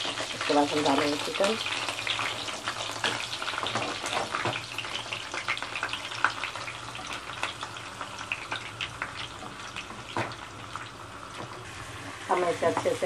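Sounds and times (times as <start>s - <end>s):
hot oil sizzling and popping: 0.0s - 13.0s.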